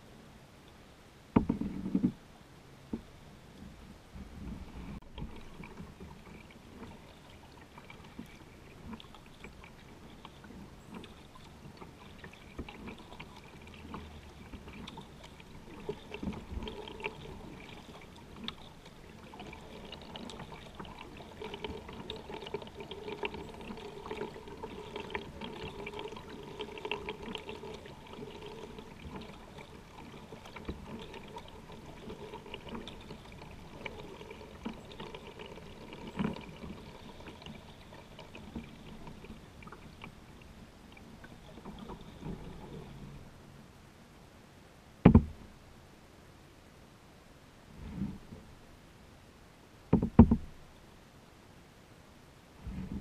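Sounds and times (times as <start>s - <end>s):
water splashing around kayak: 1.3s - 43.9s, 45.0s - 45.7s, 49.8s - 50.8s, 52.5s - 53.0s.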